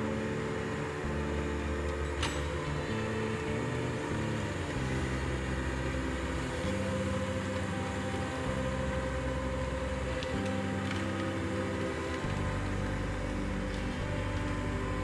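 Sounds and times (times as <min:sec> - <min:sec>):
diesel dozer engine droning: 0:00.0 - 0:15.0.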